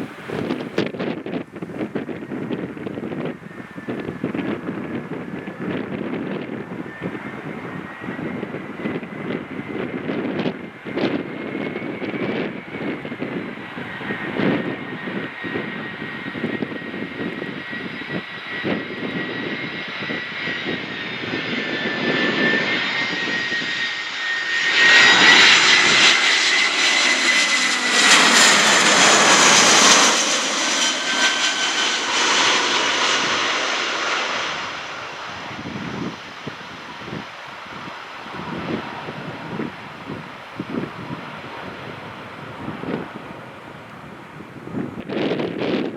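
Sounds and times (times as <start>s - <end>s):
jet airliner passing: 0.0s - 45.9s
wind buffeting microphone: 0.0s - 45.9s.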